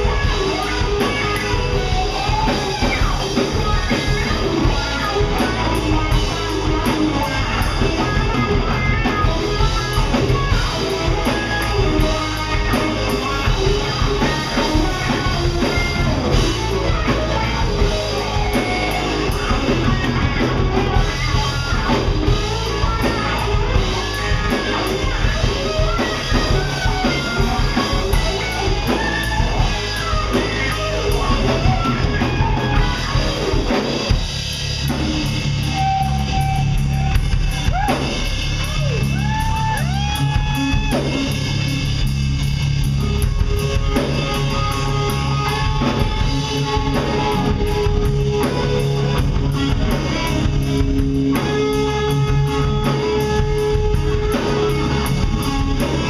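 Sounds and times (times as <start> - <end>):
lead guitar bending notes: 0.0 - 56.0
live rock band playing: 0.0 - 56.0.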